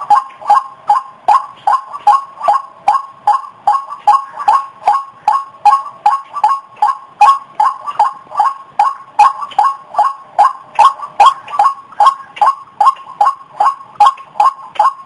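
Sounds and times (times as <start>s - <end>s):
bird harsh repeated calls: 0.0s - 15.0s.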